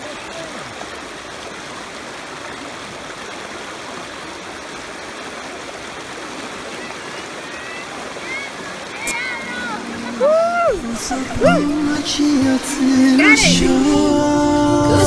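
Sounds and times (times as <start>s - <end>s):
river rapids rushing over rocks: 0.0s - 14.8s.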